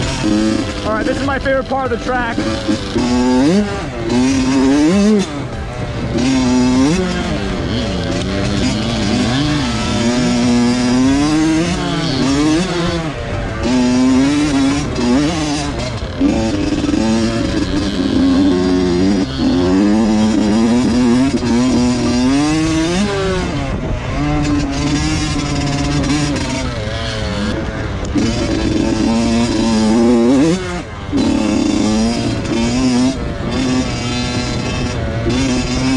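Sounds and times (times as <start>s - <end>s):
two-stroke dirt bike revving: 0.0s - 35.9s.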